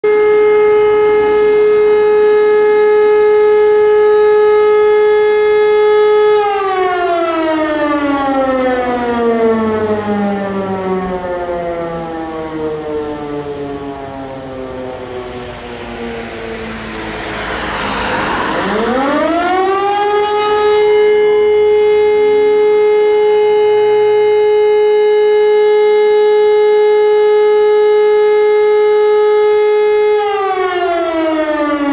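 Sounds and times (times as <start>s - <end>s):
motor siren wailing: 0.0s - 31.9s.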